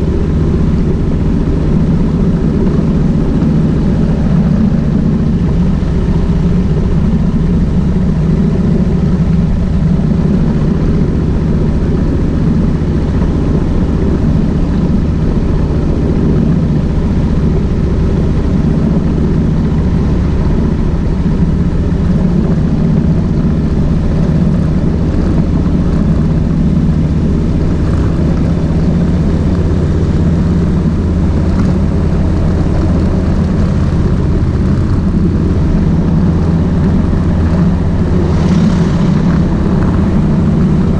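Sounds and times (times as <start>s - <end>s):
motorcycle engine droning: 0.0s - 40.9s.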